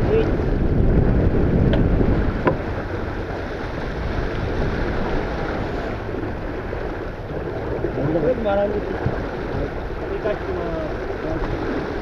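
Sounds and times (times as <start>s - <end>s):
water rushing along boat hull: 0.0s - 12.0s
wind buffeting microphone: 0.0s - 12.0s.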